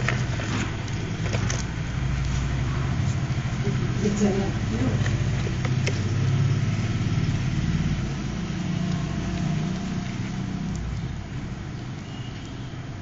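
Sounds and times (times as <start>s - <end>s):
low motor hum: 0.0s - 12.4s.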